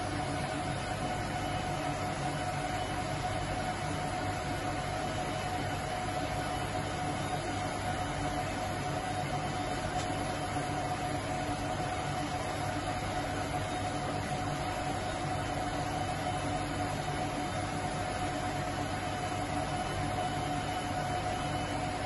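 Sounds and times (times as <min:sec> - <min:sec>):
steady mechanical drone: 0:00.0 - 0:22.0.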